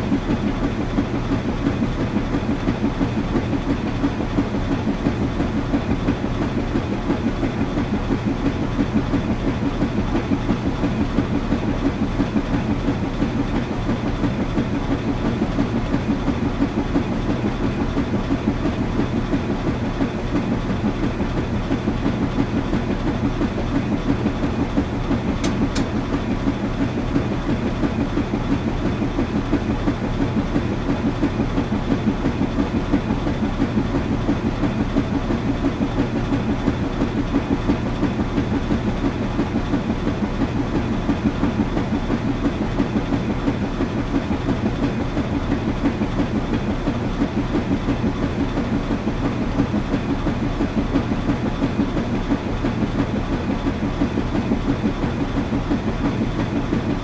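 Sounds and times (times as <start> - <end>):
washing machine churning: 0.0 - 57.0.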